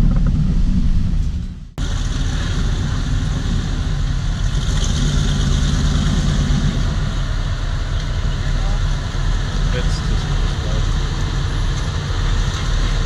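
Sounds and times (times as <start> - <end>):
vehicle engine idling low: 0.0 - 13.0.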